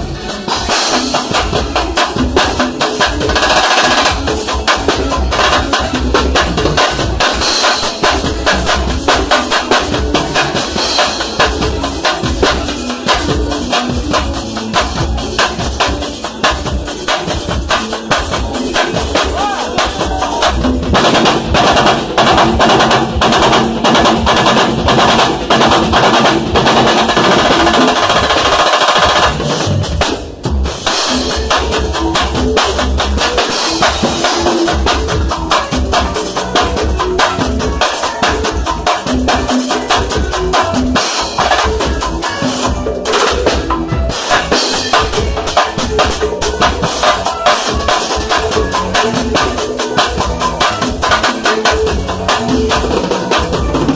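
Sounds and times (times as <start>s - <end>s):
drum kit groove: 0.0s - 53.9s
timbal hand drums: 0.0s - 53.9s.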